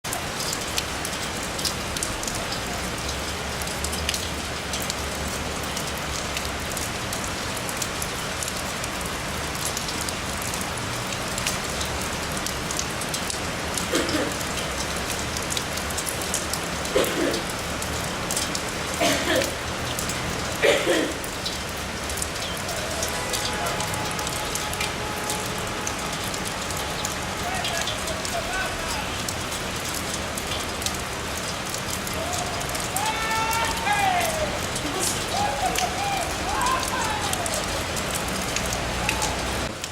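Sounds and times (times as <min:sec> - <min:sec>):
heavy rain: 0:00.0 - 0:39.9
running water: 0:00.0 - 0:39.9.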